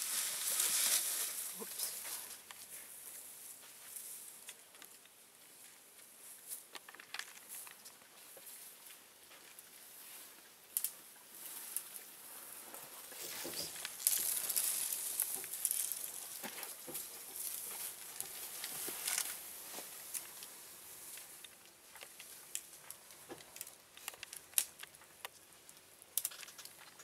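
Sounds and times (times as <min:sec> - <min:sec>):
dry grass rustling and snapping: 0:00.0 - 0:27.0.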